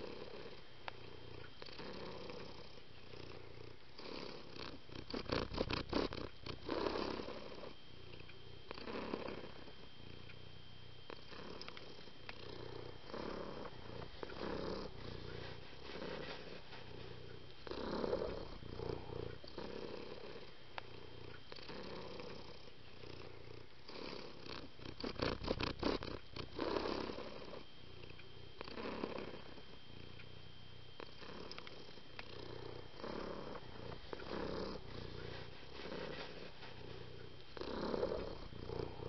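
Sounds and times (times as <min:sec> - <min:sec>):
cat purring: 0:00.0 - 0:39.0.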